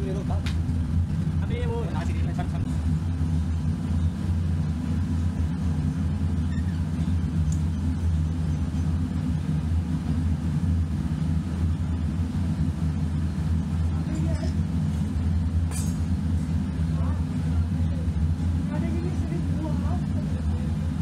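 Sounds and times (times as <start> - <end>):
low mechanical rumble of machine: 0.0 - 21.0.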